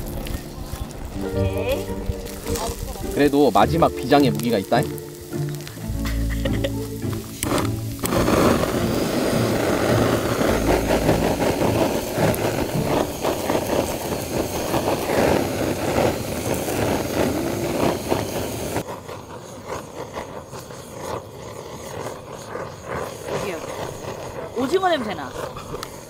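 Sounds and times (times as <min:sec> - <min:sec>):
strong gusting wind: 0:00.0 - 0:26.0.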